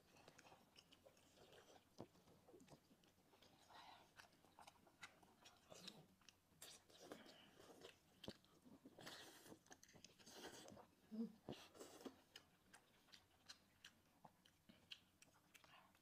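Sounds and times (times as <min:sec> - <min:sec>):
people chewing food: 0:00.0 - 0:16.0.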